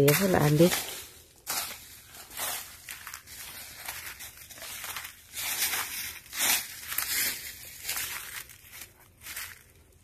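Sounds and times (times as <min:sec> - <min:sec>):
footsteps crunching dry leaves: 0:00.0 - 0:10.0.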